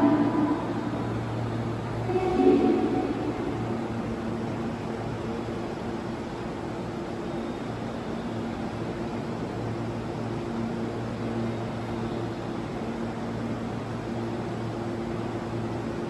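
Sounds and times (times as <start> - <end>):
machinery hum and air noise: 0.0 - 16.0.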